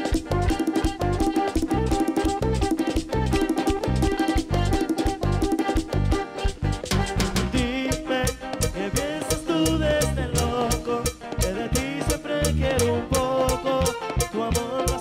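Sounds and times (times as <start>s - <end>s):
bass guitar: 0.0s - 15.0s
guitar lead melody: 0.0s - 15.0s
percussion steady beat: 0.0s - 15.0s.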